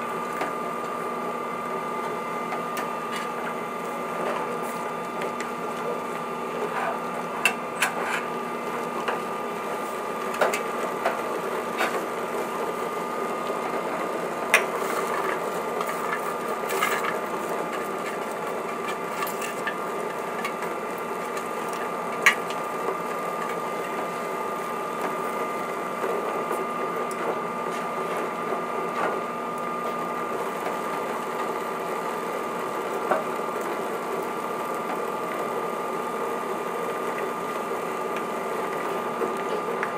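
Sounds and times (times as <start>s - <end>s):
induction hob hum and whine: 0.0s - 39.9s.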